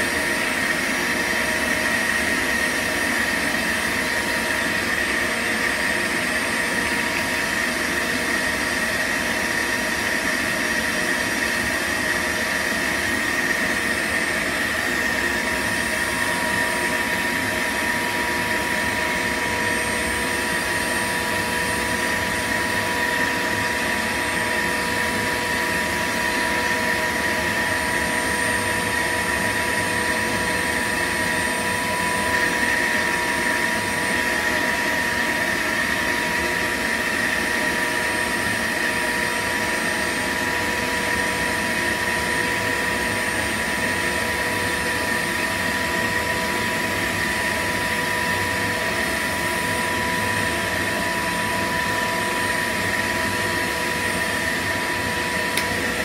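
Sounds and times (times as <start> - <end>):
shop vacuum whining: 0.0 - 56.0.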